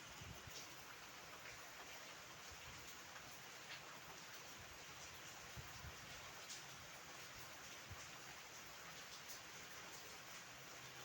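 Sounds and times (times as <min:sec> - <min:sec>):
light rain hiss: 0:00.0 - 0:11.0
rain drop ticks: 0:00.5 - 0:05.4, 0:06.0 - 0:11.0.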